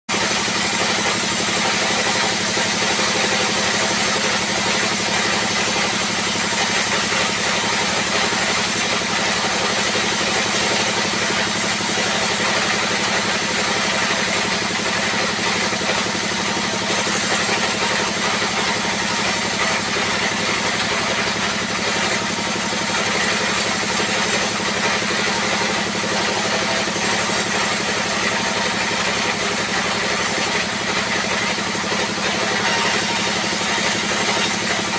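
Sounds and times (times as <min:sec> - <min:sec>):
circular saw bench running: 0:00.1 - 0:34.9
saw cutting wood: 0:00.1 - 0:34.9.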